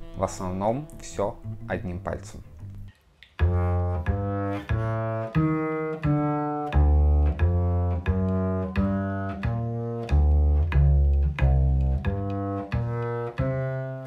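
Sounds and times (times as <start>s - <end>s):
double bass plucked notes: 0.0s - 14.0s.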